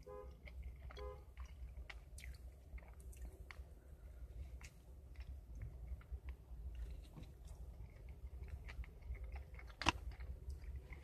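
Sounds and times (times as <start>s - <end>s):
chewing food: 0.0s - 11.0s
low steady rumble: 0.0s - 11.0s.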